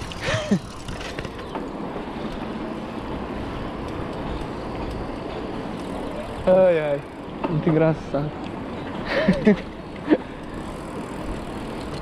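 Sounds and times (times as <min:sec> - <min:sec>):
bicycle tyre noise on asphalt: 0:00.0 - 0:12.0.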